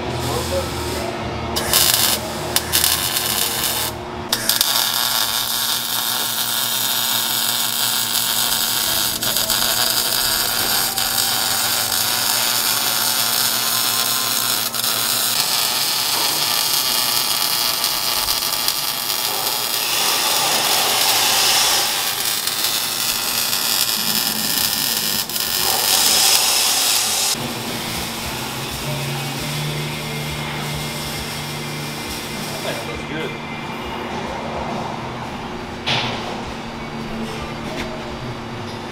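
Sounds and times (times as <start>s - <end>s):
arc welding hiss: 1.6s - 33.0s.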